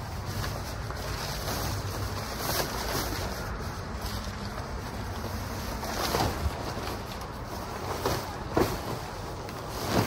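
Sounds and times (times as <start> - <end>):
tent fabric rustling: 0.0 - 10.0.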